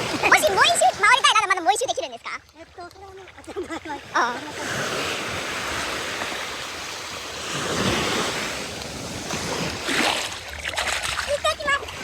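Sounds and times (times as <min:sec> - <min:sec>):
sea waves rushing: 0:00.0 - 0:12.0
wind: 0:00.0 - 0:12.0.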